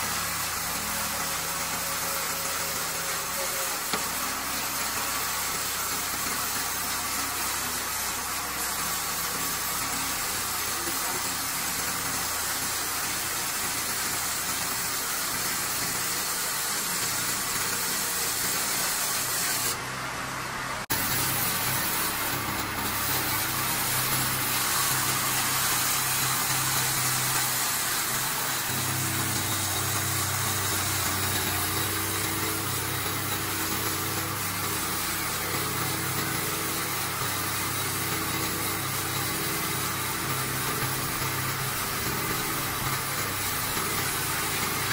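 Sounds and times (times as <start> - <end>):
band sawmill cutting timber: 0.0 - 44.9.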